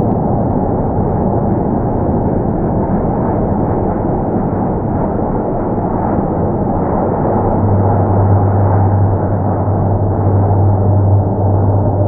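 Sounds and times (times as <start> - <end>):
slowed jet engine rumble: 0.0 - 12.0
steady low hum: 0.0 - 12.0.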